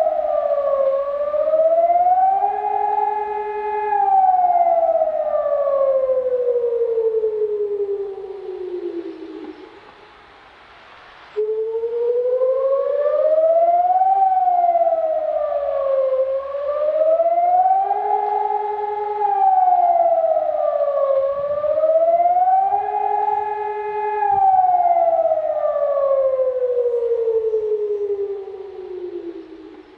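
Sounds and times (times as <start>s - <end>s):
warning siren wailing: 0.0s - 10.1s, 11.4s - 29.9s.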